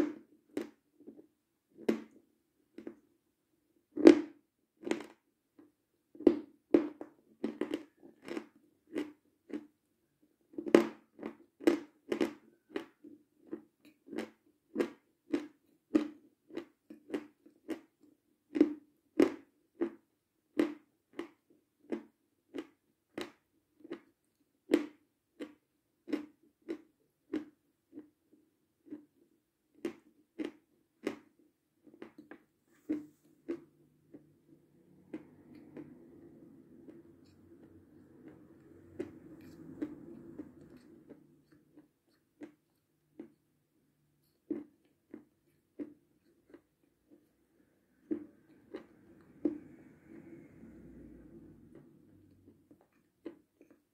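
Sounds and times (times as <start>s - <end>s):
chewing crunchy food: 0.0s - 3.1s, 4.0s - 5.3s, 6.2s - 53.9s.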